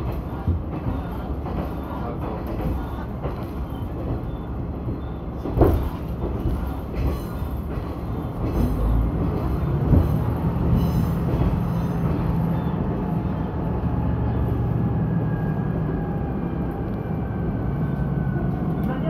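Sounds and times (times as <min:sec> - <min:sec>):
rail running noise: 0:00.0 - 0:19.0
railcar engine hum: 0:00.0 - 0:19.0.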